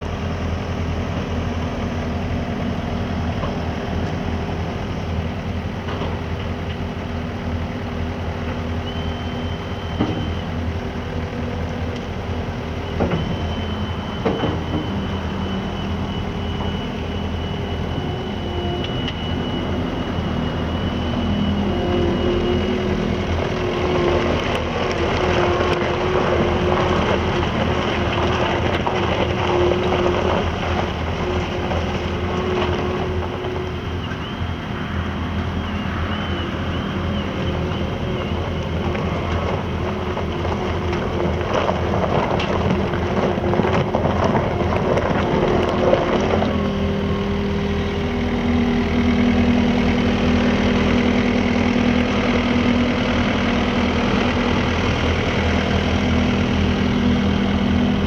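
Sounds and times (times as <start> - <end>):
skid steer engine running: 0.0 - 58.0.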